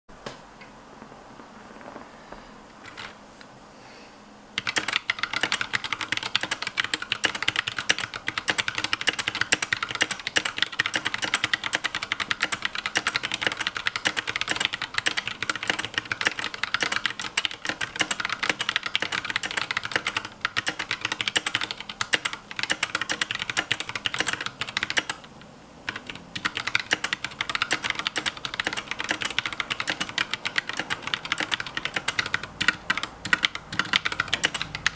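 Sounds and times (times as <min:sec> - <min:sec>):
mechanical keyboard typing: 0:04.6 - 0:34.9.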